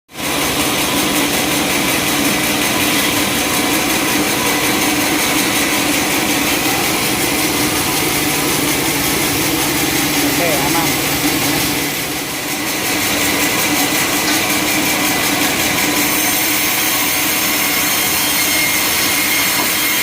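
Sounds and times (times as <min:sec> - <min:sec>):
sawmill machinery running: 0:00.1 - 0:20.0.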